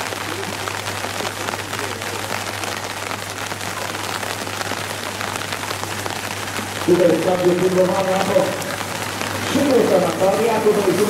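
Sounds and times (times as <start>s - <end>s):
heavy rain on asphalt: 0.0s - 11.0s.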